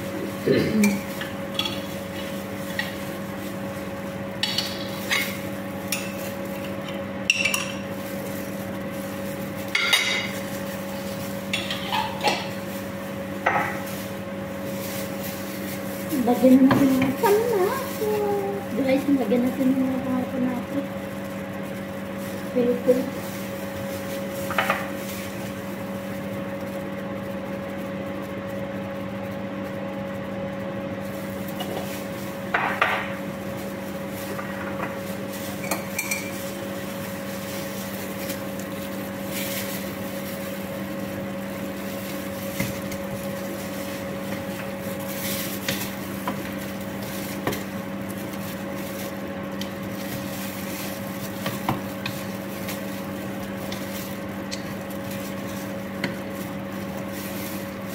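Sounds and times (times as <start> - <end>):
kitchen appliance hum: 0.0 - 57.9.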